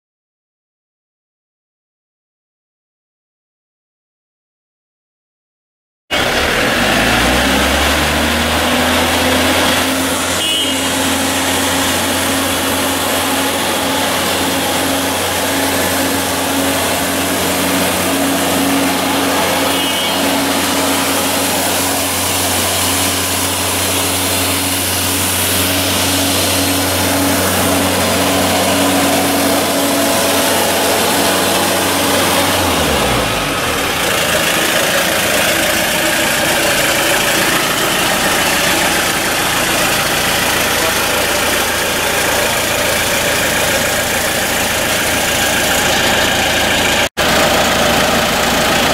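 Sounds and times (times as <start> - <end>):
vacuum excavator engine running: 6.1 - 48.9.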